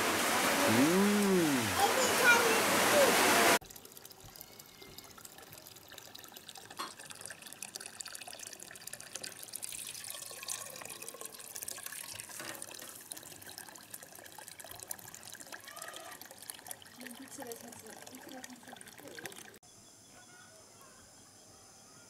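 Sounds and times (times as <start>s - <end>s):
water from hose pouring into pot: 0.0s - 19.6s
water splashing: 0.0s - 19.6s.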